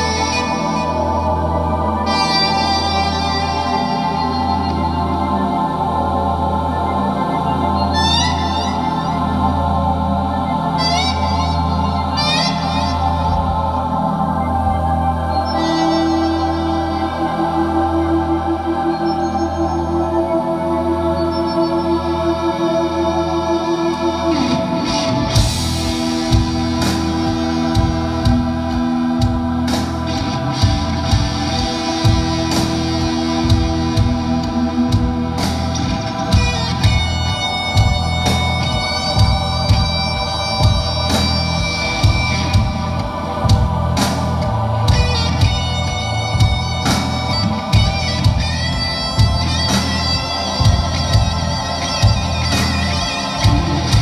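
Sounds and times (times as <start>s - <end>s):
live rock band playing: 0.0s - 20.0s, 23.6s - 54.0s.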